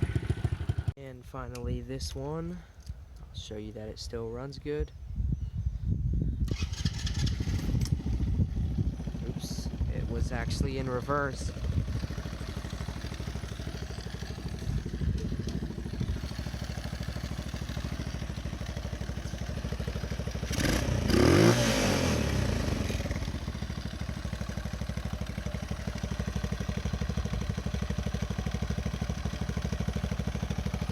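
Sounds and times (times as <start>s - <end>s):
small engine idling and revving: 0.0s - 1.0s, 6.4s - 30.9s.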